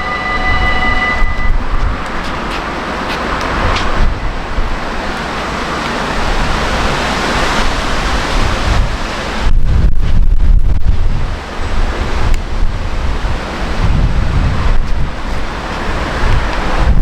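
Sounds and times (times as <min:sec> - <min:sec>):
wind on the microphone: 0:00.0 - 0:17.0.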